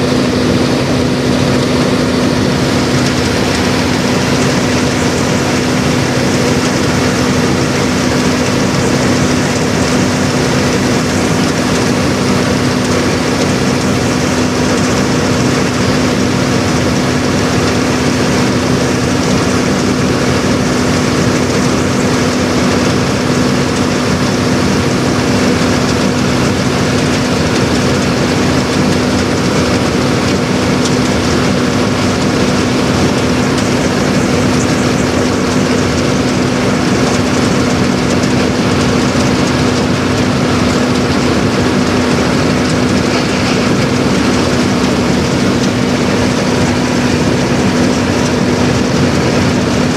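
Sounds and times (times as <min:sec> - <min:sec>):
harvester engine humming: 0:00.0 - 0:49.9.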